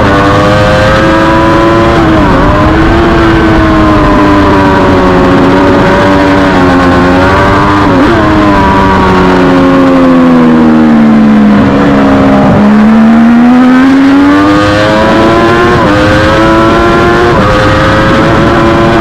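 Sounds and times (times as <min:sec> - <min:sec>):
race bike engine at high revs: 0:00.0 - 0:19.0.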